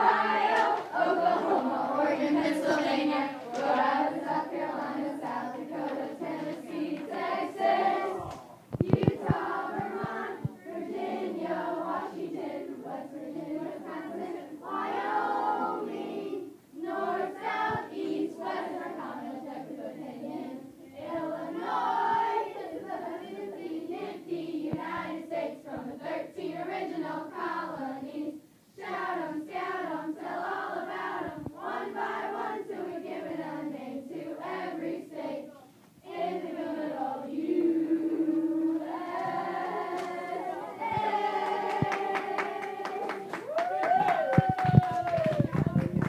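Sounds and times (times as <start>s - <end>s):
girls rapping in unison: 0.0s - 43.4s.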